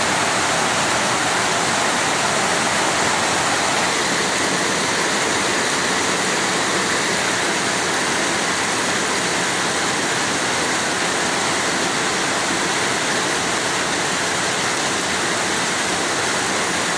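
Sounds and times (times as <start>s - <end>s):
heavy rain on foliage: 0.0s - 16.9s.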